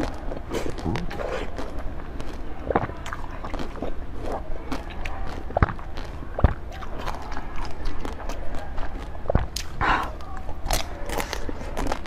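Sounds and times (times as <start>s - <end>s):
biting and chewing food: 0.0s - 12.0s
wet mouth clicks: 0.0s - 12.0s.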